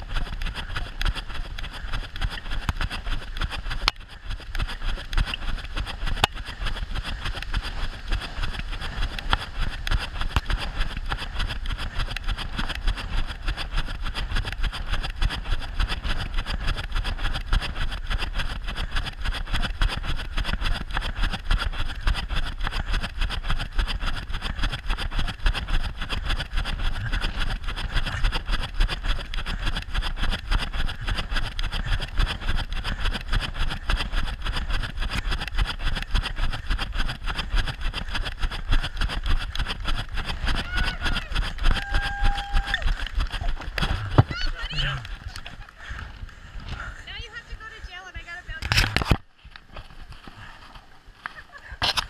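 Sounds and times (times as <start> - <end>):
small wheeled vehicle rolling on concrete: 0.0 - 52.0.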